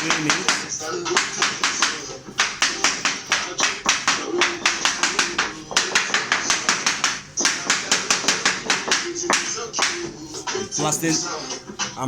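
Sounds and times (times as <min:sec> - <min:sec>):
rapid sharp taps: 0:00.0 - 0:12.0.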